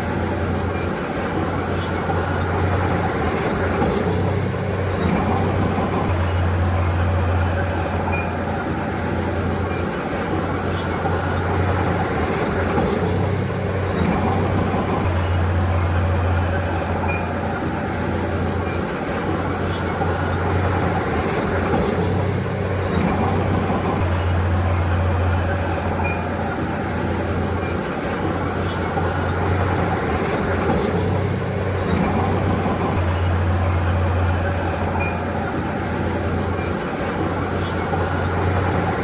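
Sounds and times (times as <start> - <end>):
bulldozer diesel engine droning: 0.0 - 39.0.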